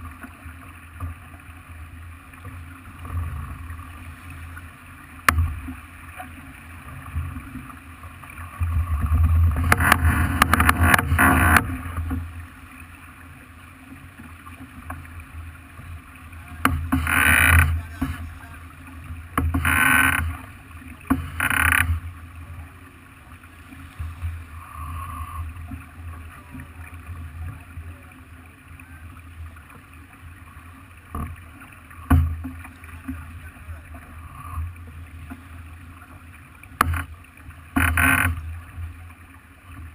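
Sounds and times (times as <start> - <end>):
wind and water rushing: 0.0 - 39.9.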